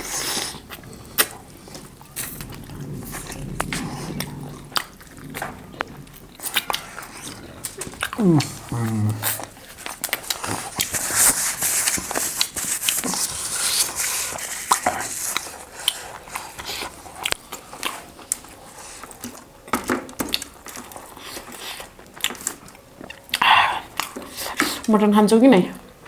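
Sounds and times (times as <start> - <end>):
wet chewing and biting: 0.0 - 24.9.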